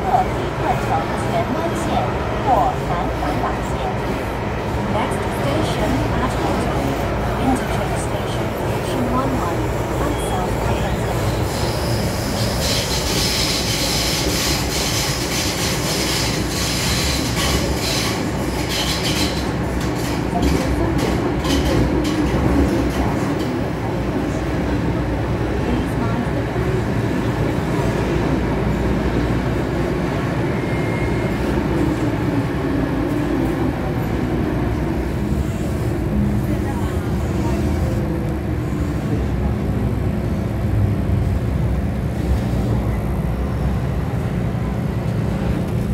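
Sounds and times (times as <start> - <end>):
train wheels and motors rumbling: 0.0 - 45.9.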